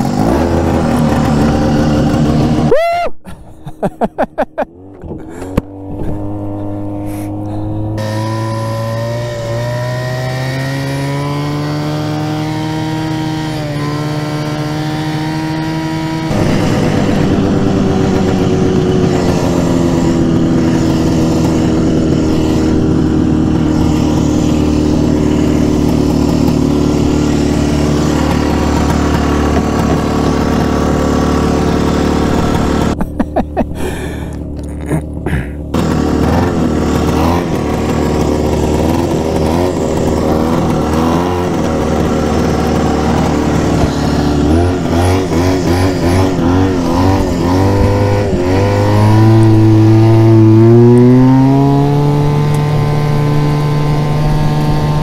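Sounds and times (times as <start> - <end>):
two-stroke snowmobile engine revving: 0.0 - 3.0, 3.6 - 55.0.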